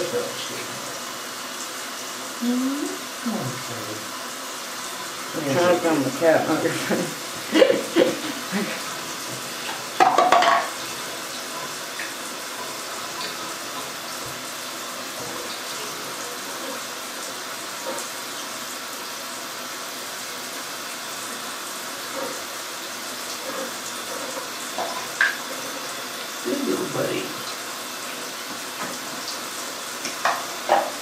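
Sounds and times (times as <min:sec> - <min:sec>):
water running from bathtub tap: 0:00.0 - 0:31.0.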